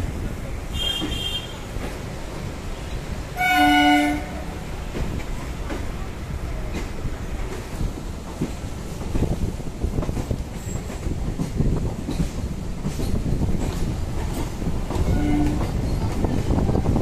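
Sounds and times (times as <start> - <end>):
train rumbling and rattling: 0.0 - 17.0.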